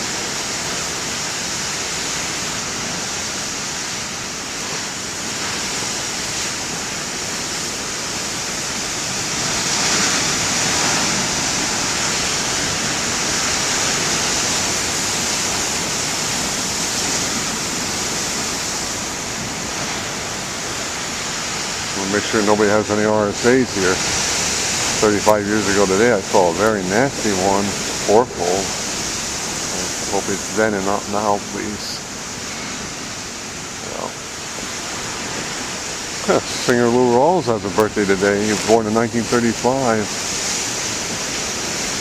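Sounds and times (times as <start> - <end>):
ocean waves breaking: 0.0 - 42.0.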